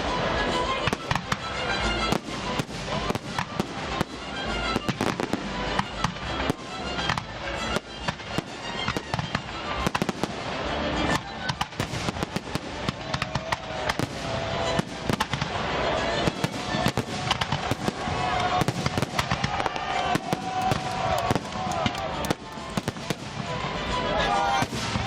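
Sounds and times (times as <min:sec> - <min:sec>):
fireworks crackling: 0:00.0 - 0:25.0
fireworks bangs: 0:00.7 - 0:25.0.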